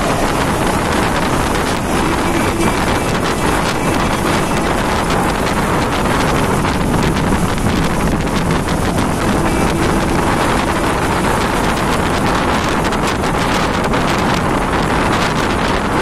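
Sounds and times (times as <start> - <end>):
moving bus road noise: 0.0 - 16.0
wind buffeting microphone: 0.0 - 16.0.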